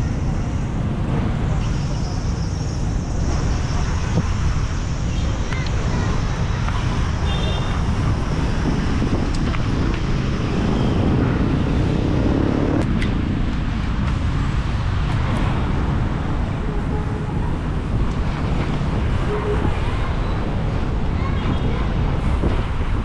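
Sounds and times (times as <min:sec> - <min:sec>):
street traffic: 0:00.0 - 0:23.0
wind rumbling on microphone: 0:00.0 - 0:23.0.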